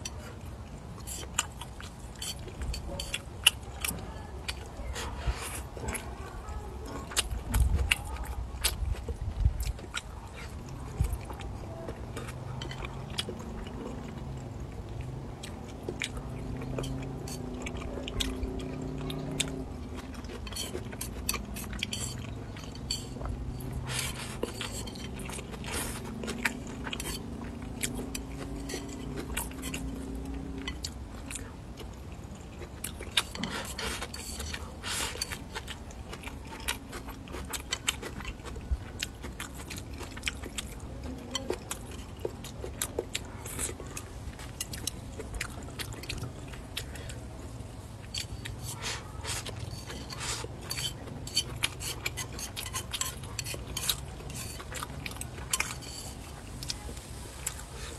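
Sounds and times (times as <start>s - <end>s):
close-up chewing: 0.0s - 57.9s.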